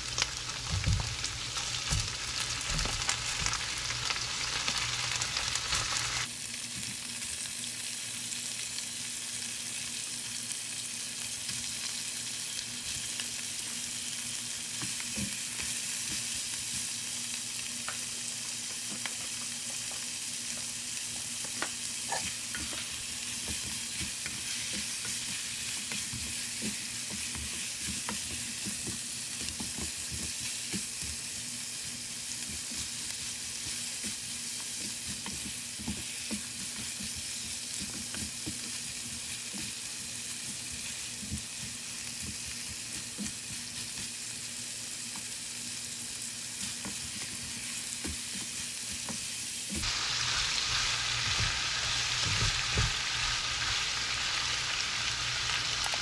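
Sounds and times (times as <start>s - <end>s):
chicken sizzling in oil: 0.0s - 56.0s.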